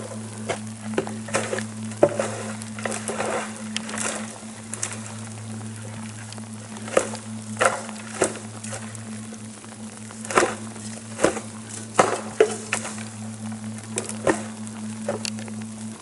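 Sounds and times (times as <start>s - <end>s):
low droning background music: 0.0s - 16.0s
sharp crackles and taps: 0.0s - 16.0s.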